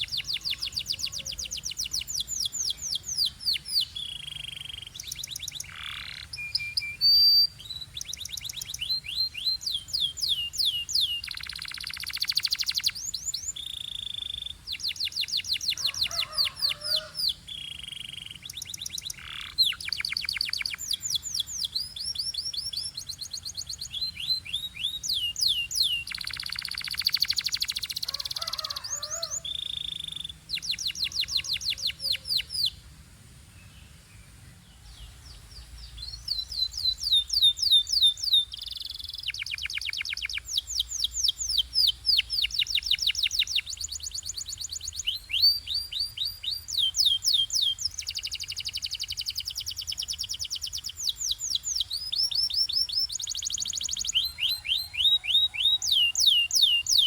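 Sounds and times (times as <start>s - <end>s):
canary singing: 0.0s - 32.8s, 35.3s - 57.0s.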